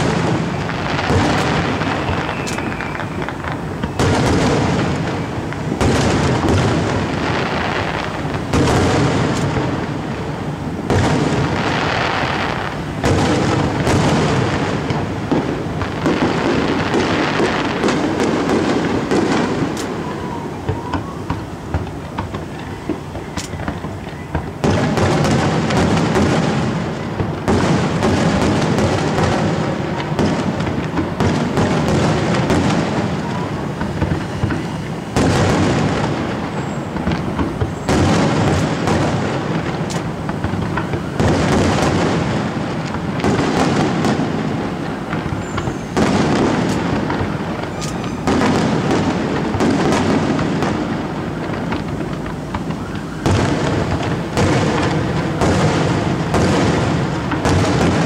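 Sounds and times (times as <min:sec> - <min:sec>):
firework booms: 0:00.0 - 0:58.0
firework crackling bursts: 0:00.0 - 0:58.0.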